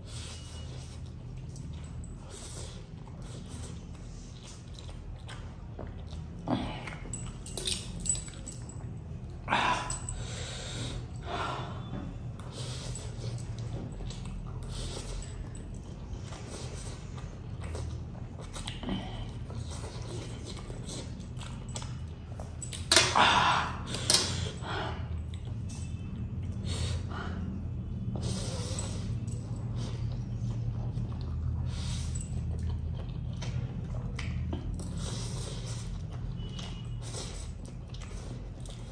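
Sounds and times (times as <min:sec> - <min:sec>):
man slurping and chewing noodles: 0:00.0 - 0:07.7, 0:08.9 - 0:38.9
low steady hum: 0:00.0 - 0:38.9.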